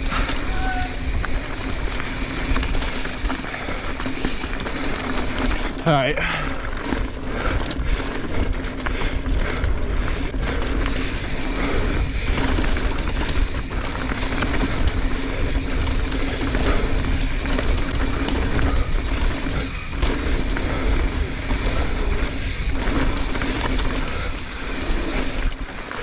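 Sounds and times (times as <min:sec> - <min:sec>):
bike tyres rumbling on dirt: 0:00.0 - 0:26.0
wind rush on microphone: 0:00.0 - 0:26.0.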